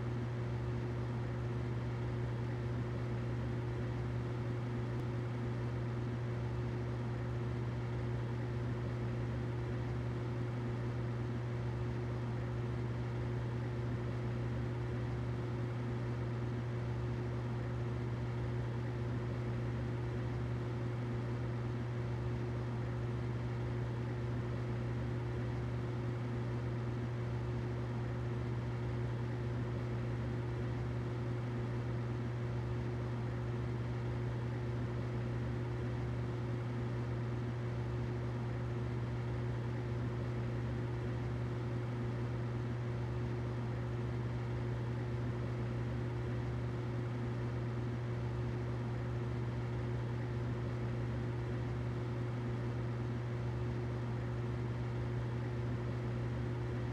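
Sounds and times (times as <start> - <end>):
humidifier running: 0.0 - 56.9.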